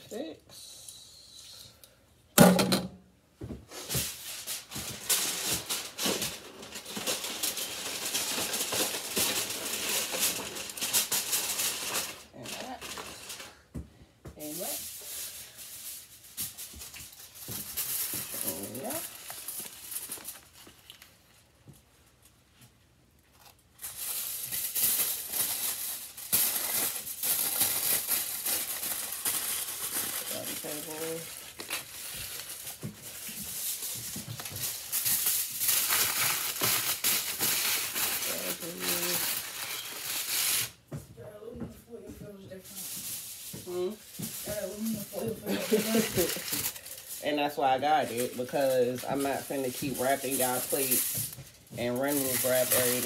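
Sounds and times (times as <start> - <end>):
aluminium foil crinkling: 3.8 - 13.7, 14.4 - 40.9, 42.5 - 53.0.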